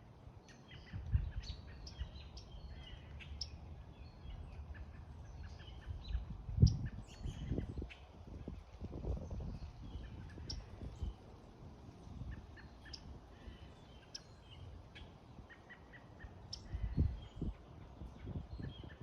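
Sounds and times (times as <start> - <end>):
birds chirping: 0.4 - 11.3, 12.0 - 19.0.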